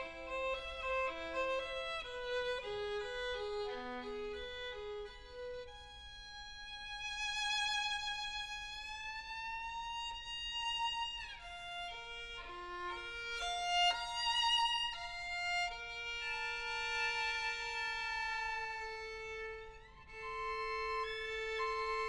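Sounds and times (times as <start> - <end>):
solo violin melody: 0.0 - 22.0.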